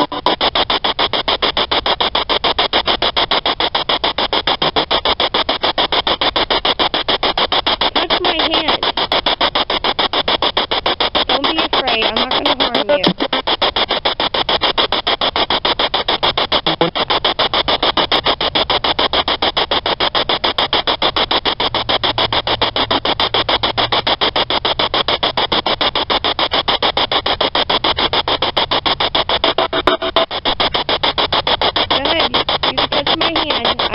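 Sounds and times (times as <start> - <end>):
radio scanner static pulses: 0.0 - 33.9.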